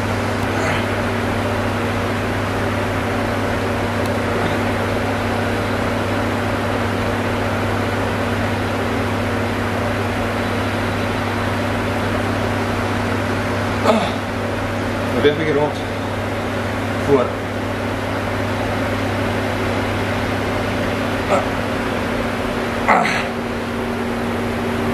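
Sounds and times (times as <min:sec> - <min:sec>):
ventilation system hum and hiss: 0:00.0 - 0:24.9.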